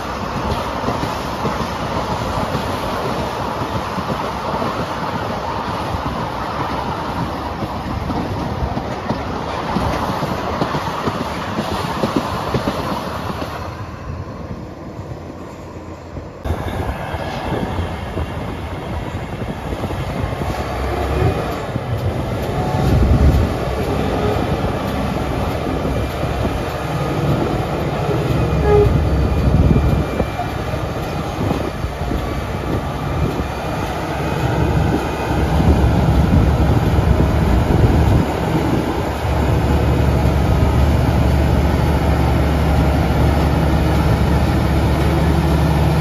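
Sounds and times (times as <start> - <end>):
diesel locomotive engine rumble: 0.0 - 46.0.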